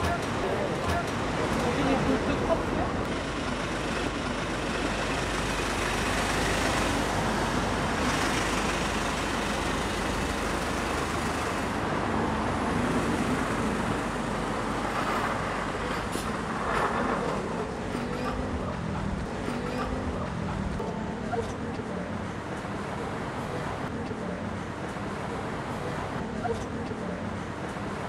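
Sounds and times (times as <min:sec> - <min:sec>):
car and bus engines rumbling: 0:00.0 - 0:28.0
tyres passing on road: 0:00.0 - 0:28.0.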